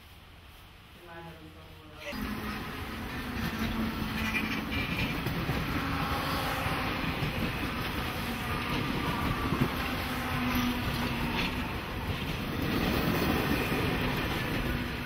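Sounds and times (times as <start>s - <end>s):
train wheels rumbling on rails: 2.1s - 15.0s.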